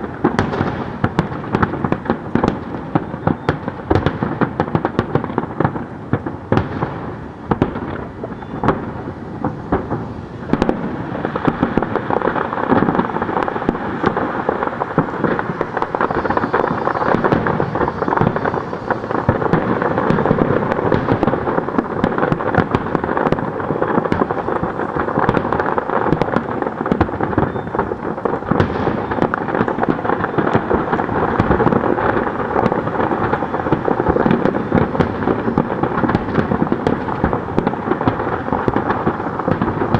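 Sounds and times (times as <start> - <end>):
fireworks booms and crackles: 0.0 - 39.9.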